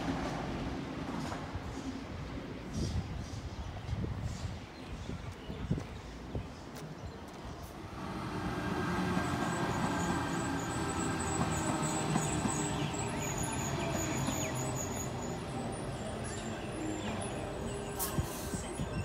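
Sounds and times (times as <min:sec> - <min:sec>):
train wheels rumbling on rails: 0:00.0 - 0:04.6, 0:07.3 - 0:19.0.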